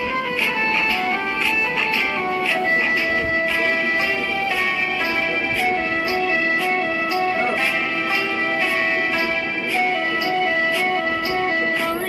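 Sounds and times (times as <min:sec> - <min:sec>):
light beat: 0:00.0 - 0:12.0
melody of held notes: 0:00.0 - 0:12.0.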